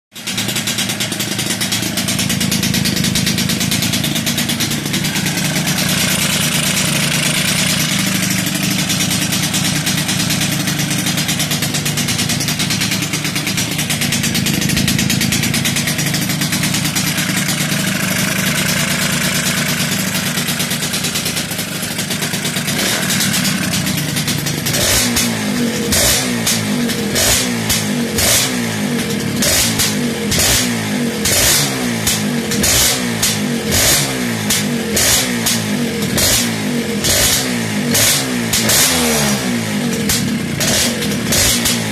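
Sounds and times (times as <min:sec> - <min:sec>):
motorcycle engine revving: 0:00.2 - 0:41.9.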